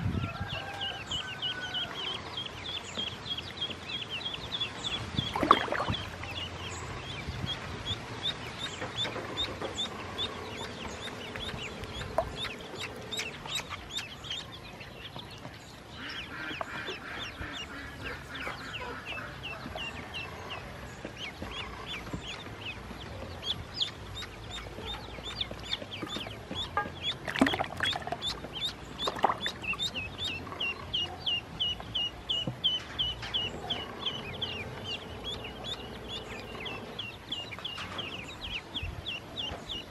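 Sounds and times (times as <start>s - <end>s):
ducklings peeping: 0.1s - 39.9s.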